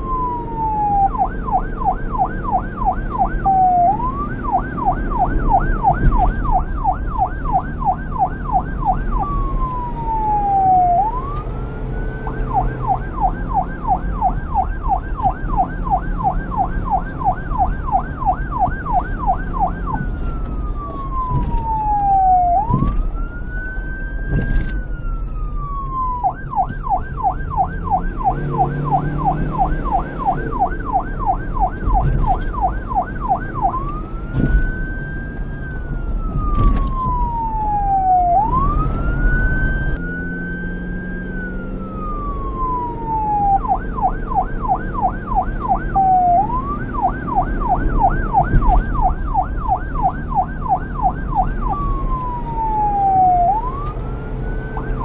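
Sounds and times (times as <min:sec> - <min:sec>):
electronic police siren: 0:00.0 - 0:55.0.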